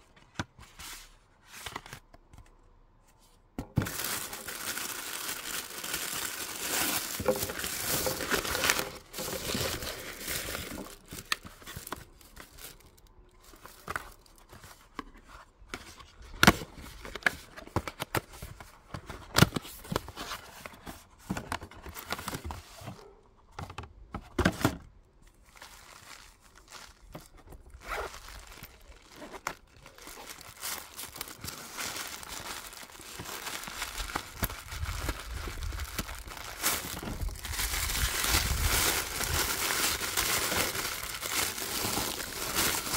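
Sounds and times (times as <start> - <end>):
paper rustling and crinkling: 0.0 - 24.8, 25.4 - 42.9.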